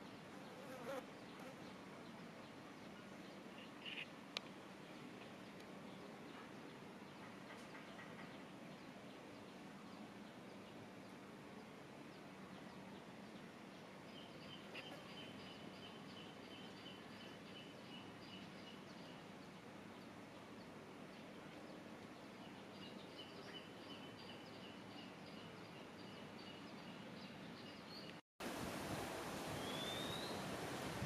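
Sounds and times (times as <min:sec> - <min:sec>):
faint outdoor ambience: 0:00.0 - 0:31.0.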